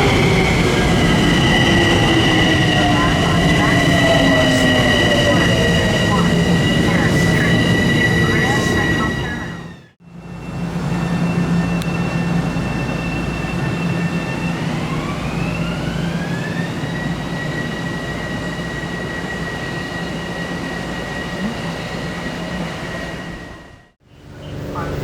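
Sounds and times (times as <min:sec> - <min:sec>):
electric traction motors whining: 0:00.0 - 0:25.0.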